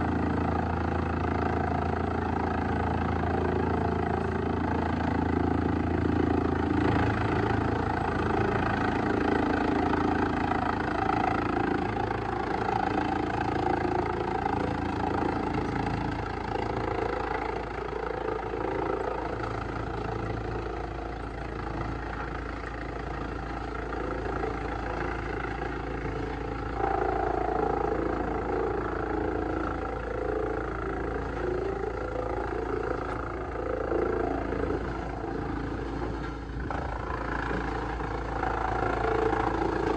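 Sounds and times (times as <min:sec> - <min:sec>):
wood shredder engine humming: 0:00.0 - 0:39.9.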